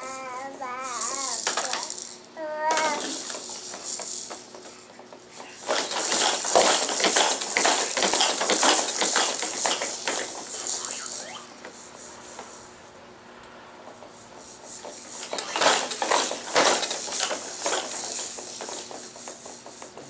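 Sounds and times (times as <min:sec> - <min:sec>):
baby jumper toys rattling: 0:00.0 - 0:12.7, 0:13.9 - 0:20.0.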